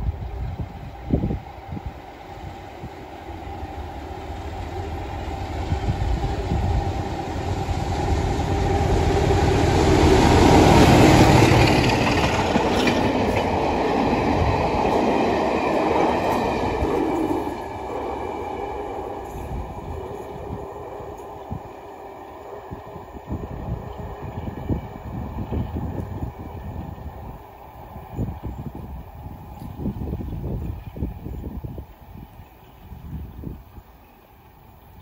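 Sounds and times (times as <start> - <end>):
diesel locomotive engine passing: 0.0 - 35.0
train wheels on rails: 0.0 - 35.0.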